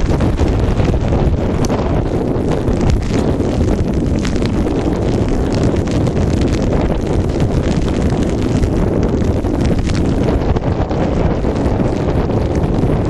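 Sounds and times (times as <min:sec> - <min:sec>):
small crackles: 0:00.0 - 0:13.0
wind buffeting microphone: 0:00.0 - 0:13.0.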